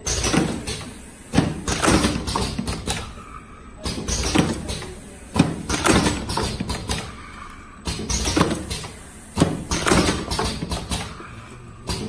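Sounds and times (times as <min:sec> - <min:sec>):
cartoning machine clattering: 0:00.0 - 0:03.2, 0:03.8 - 0:07.2, 0:07.8 - 0:12.0.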